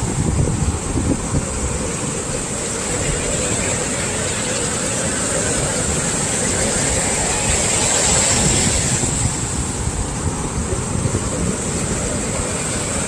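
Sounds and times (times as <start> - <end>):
surf washing up the beach: 0.0 - 13.0
wind buffeting the microphone: 0.0 - 13.0.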